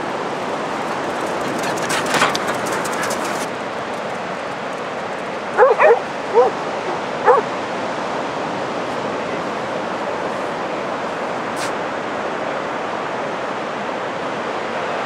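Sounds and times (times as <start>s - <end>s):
surf rushing on beach: 0.0s - 15.0s.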